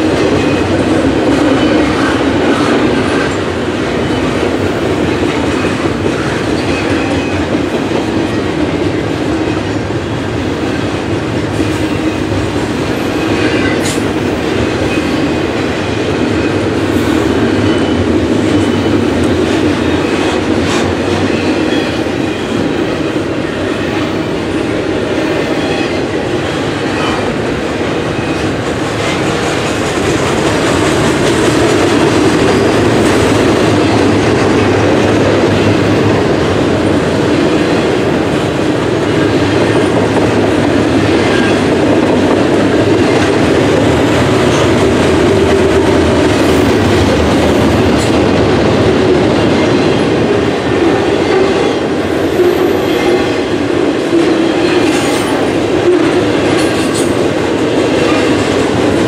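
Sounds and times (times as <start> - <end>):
steel wheels running on rails: 0.0 - 59.0.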